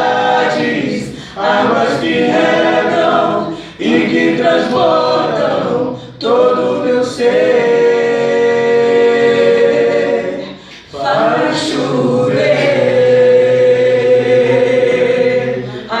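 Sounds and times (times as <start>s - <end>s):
vocal group singing unaccompanied: 0.0s - 16.0s.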